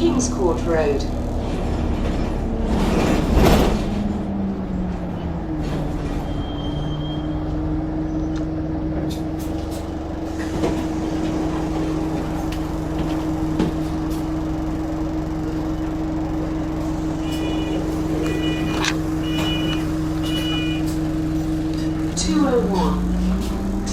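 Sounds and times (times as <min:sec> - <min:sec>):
bus engine drone: 0:00.0 - 0:23.9.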